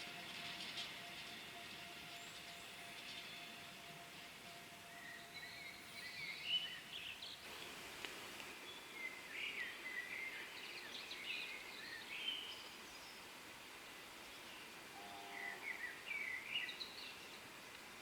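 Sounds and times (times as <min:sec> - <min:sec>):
faint background noise: 0:00.0 - 0:18.0.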